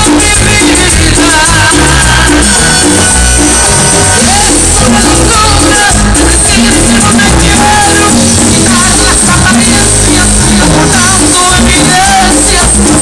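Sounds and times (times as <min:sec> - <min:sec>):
live cumbia band playing: 0:00.0 - 0:13.0
repeating bass beat: 0:00.0 - 0:13.0.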